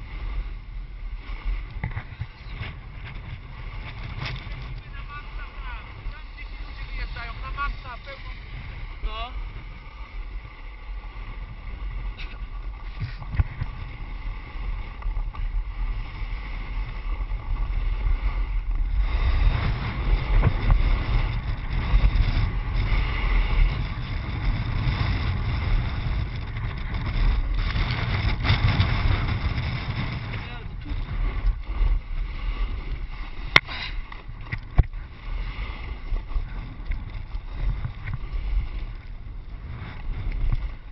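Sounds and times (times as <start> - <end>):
skis scraping over snow: 0.0 - 40.9
wind buffeting microphone: 0.0 - 40.9.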